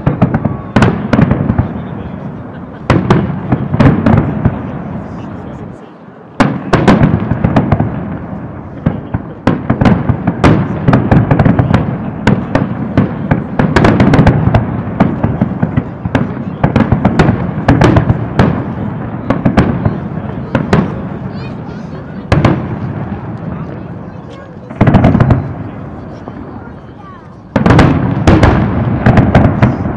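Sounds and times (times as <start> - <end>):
fireworks crackling: 0.0 - 29.9.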